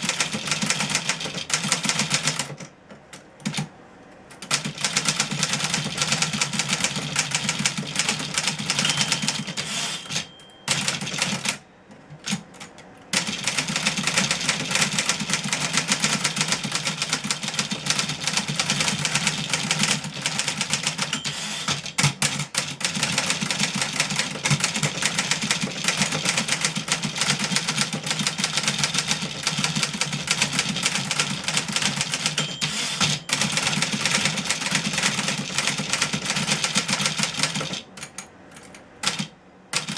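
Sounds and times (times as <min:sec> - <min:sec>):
typewriter keystrokes clattering: 0:00.0 - 0:03.7, 0:04.3 - 0:11.6, 0:12.2 - 0:39.9.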